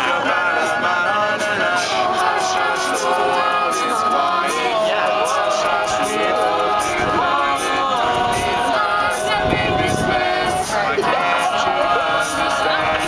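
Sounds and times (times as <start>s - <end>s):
a cappella group singing: 0.0s - 13.0s
vocal percussion: 0.0s - 13.0s.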